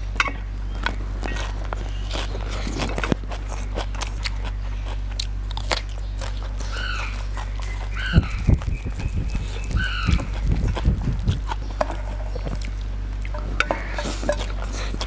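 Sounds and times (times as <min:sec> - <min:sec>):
wet chewing with crunches: 0:00.0 - 0:15.0.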